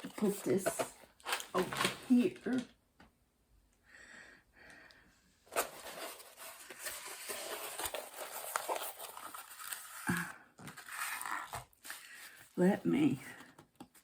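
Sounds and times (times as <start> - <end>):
paper and plastic rustling: 0.0 - 2.7, 5.5 - 14.0.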